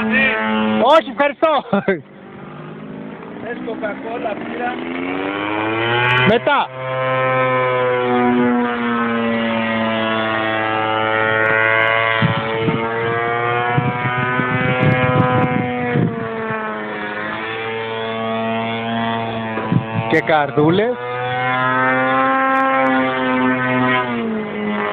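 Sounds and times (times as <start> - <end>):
model plane engine running: 0.0 - 24.9.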